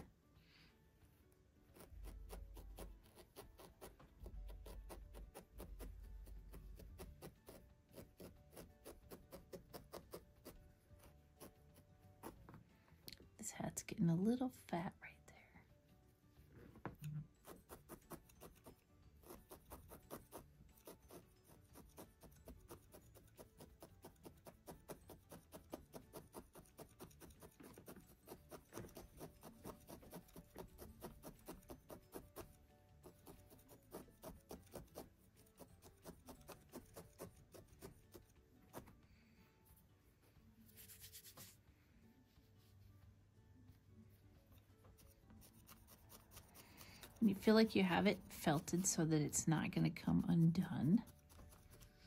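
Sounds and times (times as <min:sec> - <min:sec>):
felting needle poking wool: 0:00.0 - 0:15.2, 0:15.8 - 0:52.0.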